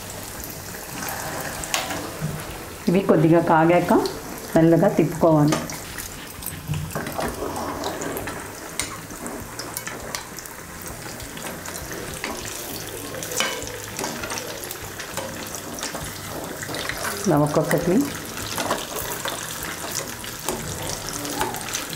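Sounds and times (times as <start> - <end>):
deep-frying sizzle in oil: 0.0 - 21.9.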